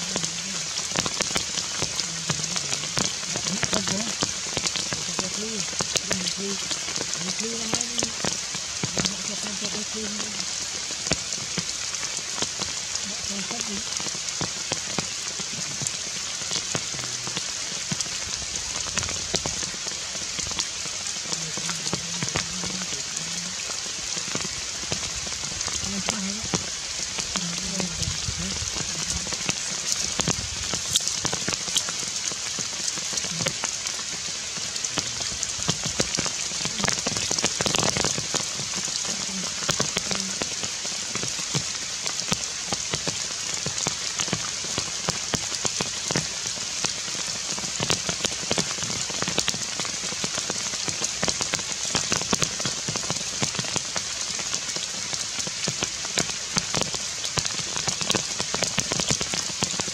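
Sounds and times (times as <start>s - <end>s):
heavy rain on leaves: 0.0s - 59.9s.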